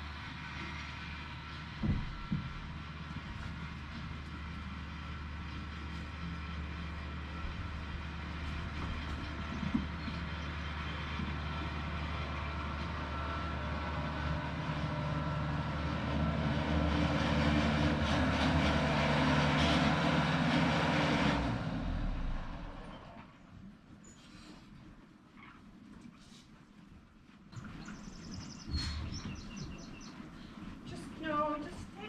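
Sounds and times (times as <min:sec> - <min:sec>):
engine humming: 0:00.0 - 0:23.7, 0:27.6 - 0:32.0.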